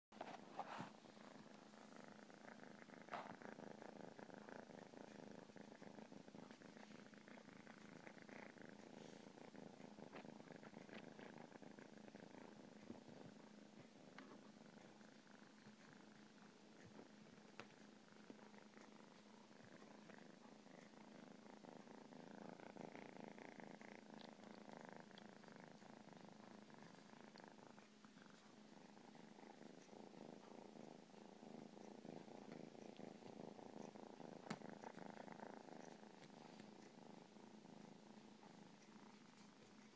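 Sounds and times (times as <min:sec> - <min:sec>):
cat purring: 0:00.2 - 0:39.9.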